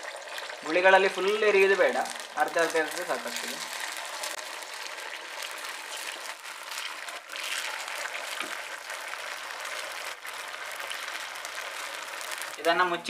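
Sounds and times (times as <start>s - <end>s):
oil sizzling in pan: 0.0s - 13.0s.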